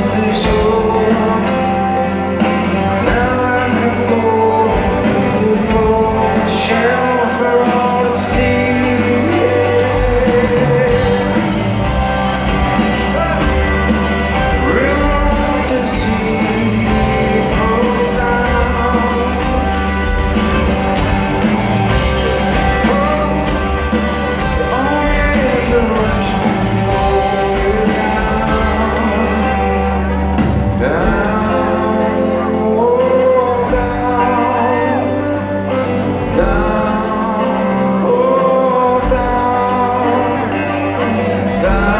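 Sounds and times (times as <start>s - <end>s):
live rock band playing: 0.0s - 41.9s
person singing: 0.0s - 41.9s.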